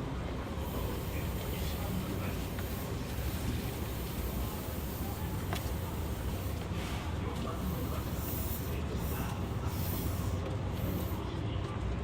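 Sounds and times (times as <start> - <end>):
train rolling in tunnel: 0.0 - 12.0.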